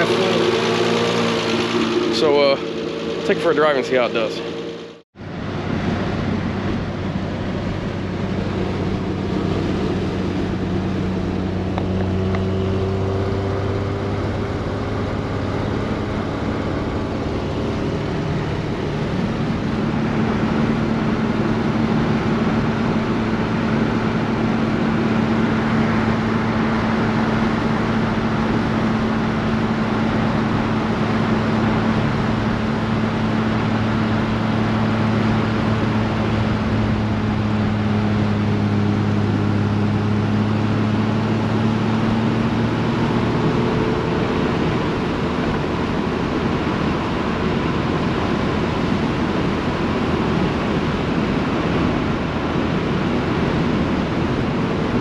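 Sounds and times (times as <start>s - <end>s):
car engine running: 0.0s - 55.0s
road noise: 0.0s - 55.0s.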